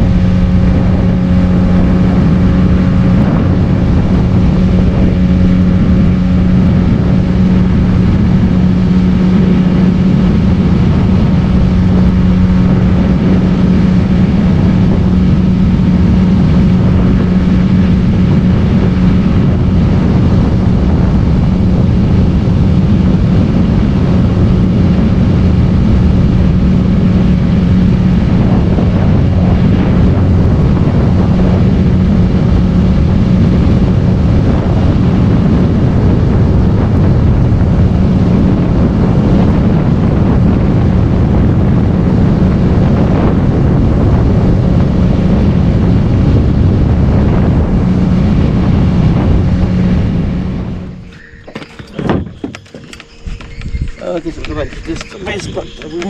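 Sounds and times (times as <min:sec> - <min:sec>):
outboard motor running: 0:00.0 - 0:56.0
wind buffeting microphone: 0:00.0 - 0:56.0.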